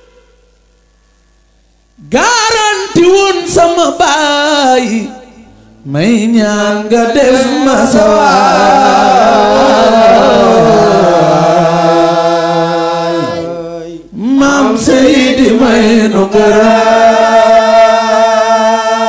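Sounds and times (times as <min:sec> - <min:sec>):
devotional chant singing: 0:02.0 - 0:19.0.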